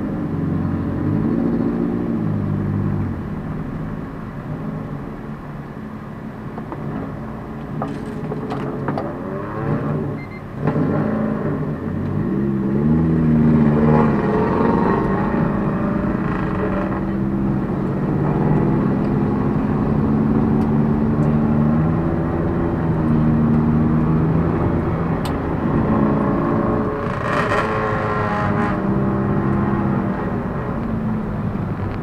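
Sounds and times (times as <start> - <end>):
car engine running inside cabin: 0.0 - 32.0.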